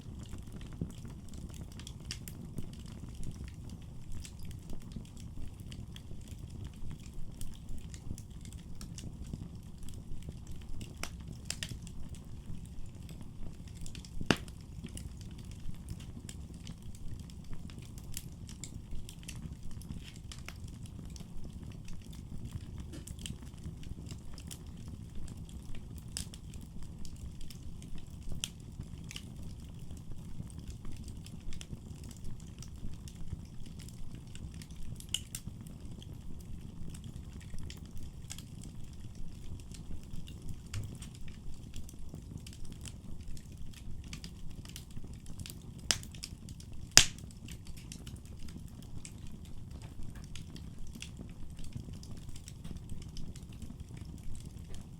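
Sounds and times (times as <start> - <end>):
fire crackling and popping: 0.0 - 54.9
fire flames rumbling: 0.0 - 54.9.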